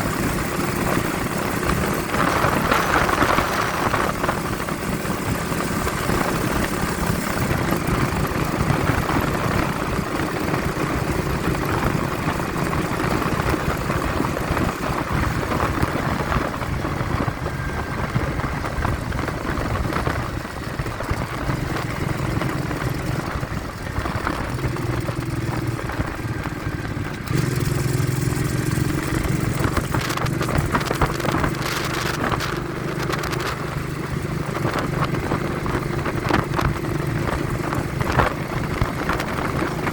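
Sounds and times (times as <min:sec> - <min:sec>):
vehicle engine running: 0:00.0 - 0:39.9
wind buffeting microphone: 0:00.0 - 0:39.9.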